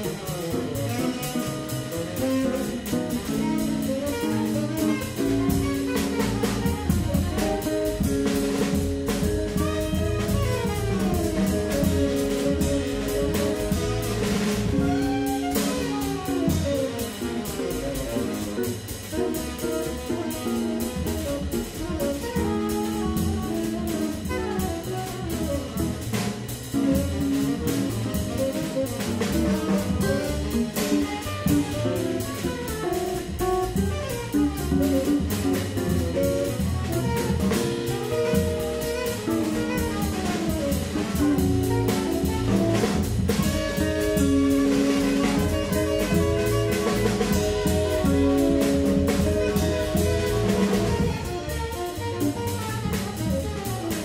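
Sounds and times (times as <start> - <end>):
drum kit with ride cymbal: 0.0 - 54.0
tenor saxophone: 0.0 - 54.0
upright bass: 0.0 - 54.0.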